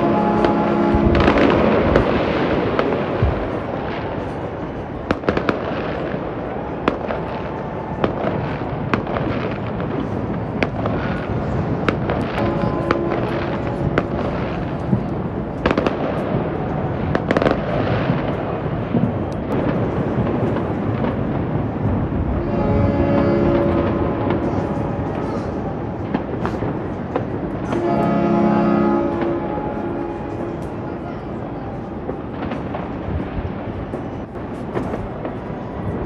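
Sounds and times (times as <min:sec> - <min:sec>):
distant fireworks rumble: 0:00.0 - 0:36.0
long steady tones: 0:00.0 - 0:36.0
sharp fireworks cracks and bangs: 0:00.0 - 0:36.0.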